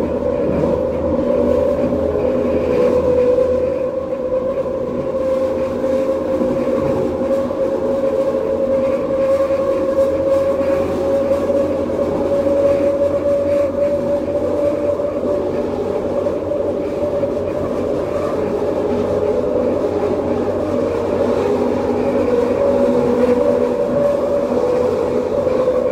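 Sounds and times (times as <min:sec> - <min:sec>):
wheels running on rails: 0:00.0 - 0:25.9.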